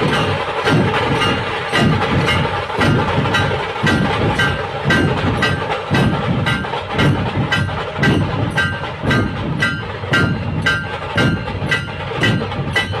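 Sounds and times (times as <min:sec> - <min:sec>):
drums beating driving rhythm: 0:00.0 - 0:13.0.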